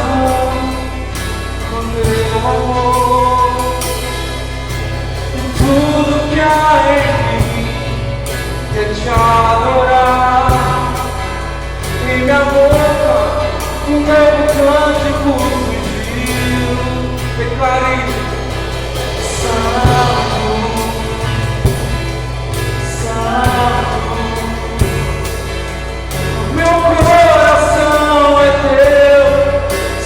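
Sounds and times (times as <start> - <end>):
acoustic guitar: 0.0 - 30.0
drum kit: 0.0 - 30.0
person singing: 5.3 - 30.0.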